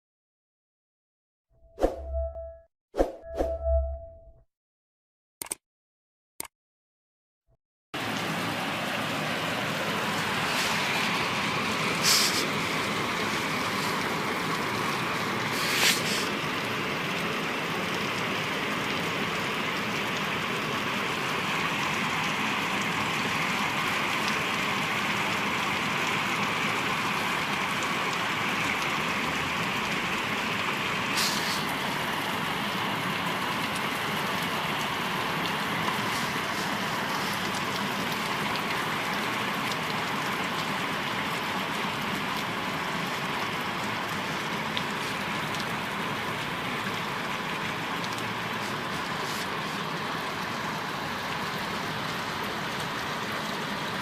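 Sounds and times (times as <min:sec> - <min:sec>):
rain on a rooftop: 0:08.0 - 0:54.0.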